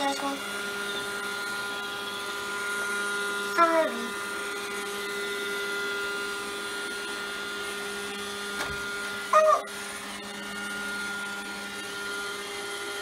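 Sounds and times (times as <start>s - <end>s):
robot vacuum motor whine: 0.0s - 13.0s.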